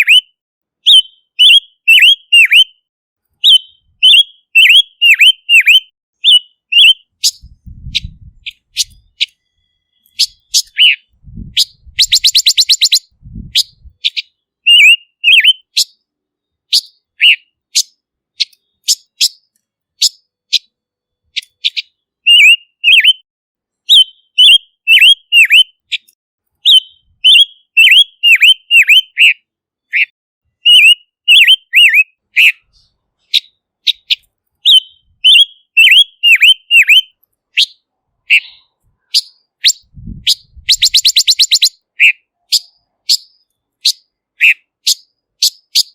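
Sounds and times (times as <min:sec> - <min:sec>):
bird whistled calls: 0:00.0 - 0:02.8, 0:03.4 - 0:16.0, 0:16.7 - 0:20.7, 0:21.4 - 0:23.2, 0:23.9 - 0:45.9.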